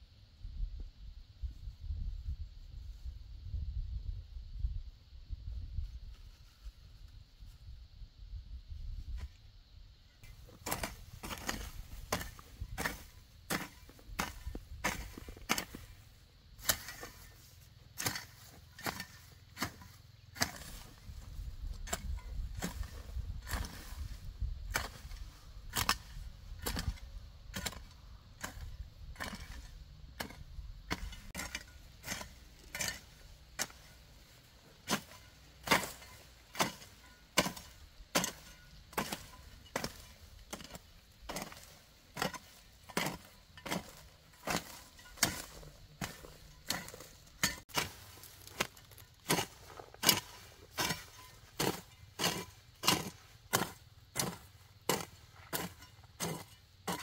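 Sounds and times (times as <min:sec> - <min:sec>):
hoe chopping into soil: 0:10.2 - 0:57.0.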